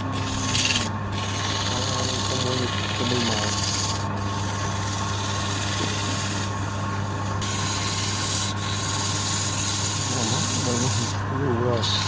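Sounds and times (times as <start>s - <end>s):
tool hissing against spinning wood: 0.0s - 12.0s
wood lathe motor hum: 0.0s - 12.0s.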